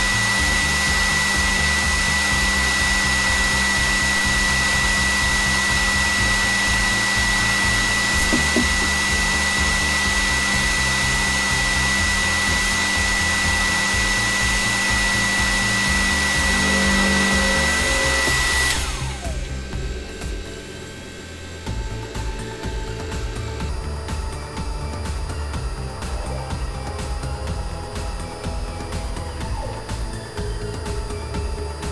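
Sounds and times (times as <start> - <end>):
cutter milling a slot: 0.0 - 31.9
milling spindle whining: 0.0 - 31.9.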